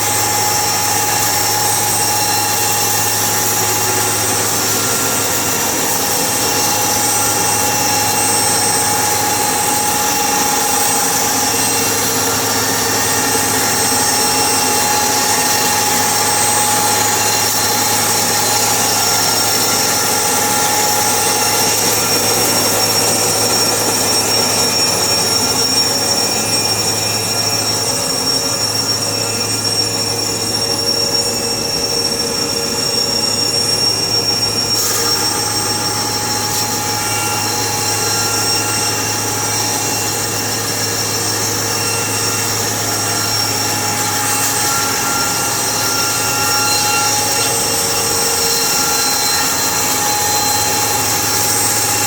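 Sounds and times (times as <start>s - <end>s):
sawmill machinery droning: 0.0s - 52.0s.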